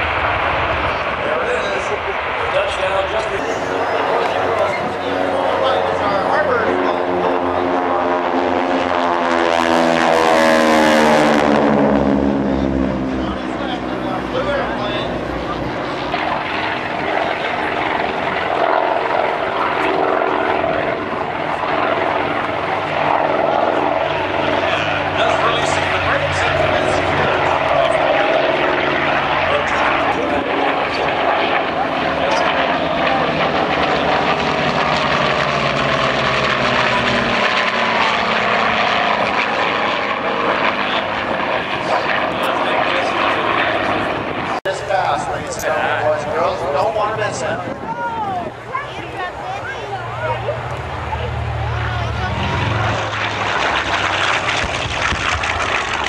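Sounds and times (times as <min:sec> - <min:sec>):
propeller aircraft engine: 0:00.0 - 0:56.0.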